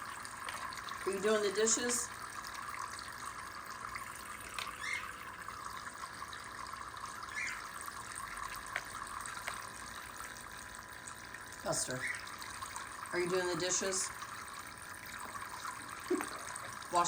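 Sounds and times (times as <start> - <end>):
trickle of running water: 0.0 - 17.0.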